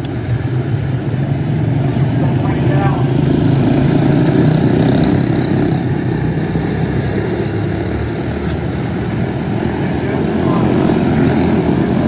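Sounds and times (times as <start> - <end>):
small race car engine running: 1.0 - 12.0.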